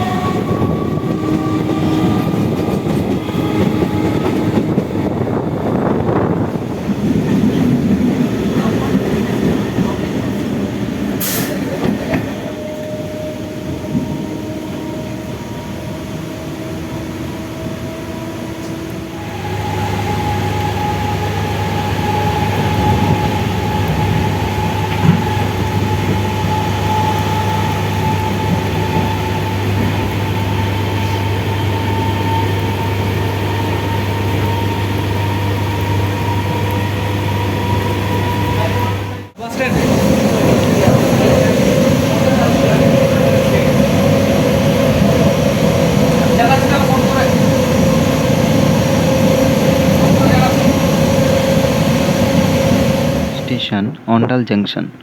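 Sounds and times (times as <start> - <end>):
electric train motor whine: 0.0 - 7.9, 12.4 - 53.6.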